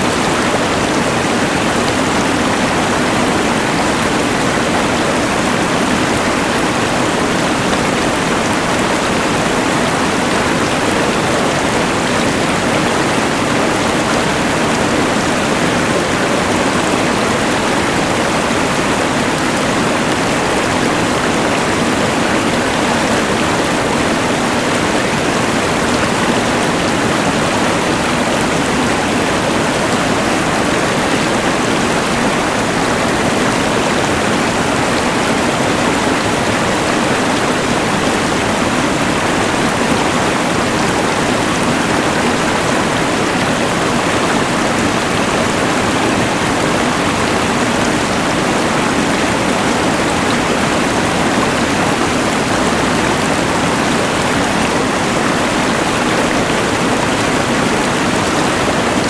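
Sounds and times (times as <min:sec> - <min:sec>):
rushing river: 0:00.0 - 0:59.0.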